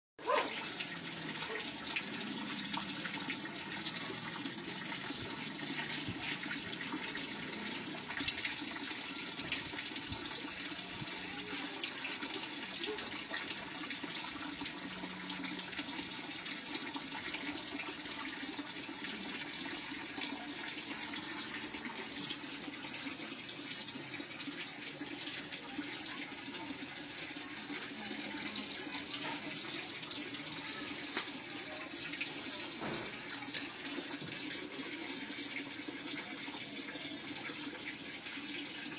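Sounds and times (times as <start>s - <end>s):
water trickling into pond: 0.2s - 38.9s.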